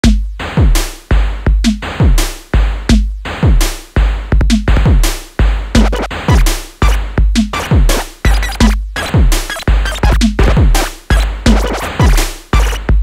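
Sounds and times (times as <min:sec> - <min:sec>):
deep kick drum: 0:00.0 - 0:13.0
electronic music with drum-machine beat: 0:00.0 - 0:13.0.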